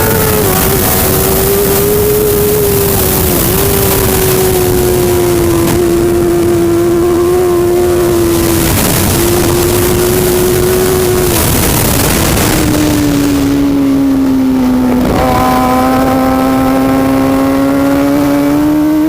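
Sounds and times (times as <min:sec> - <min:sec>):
loud rushing noise: 0:00.0 - 0:18.5
superbike engine at high revs: 0:00.0 - 0:19.0.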